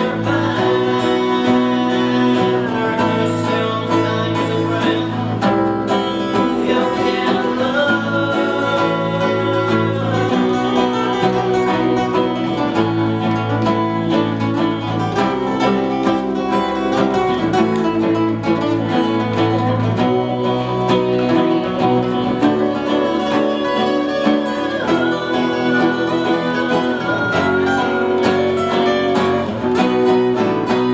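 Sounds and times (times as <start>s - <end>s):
acoustic guitars: 0.0s - 30.9s
bass guitar: 0.0s - 30.9s.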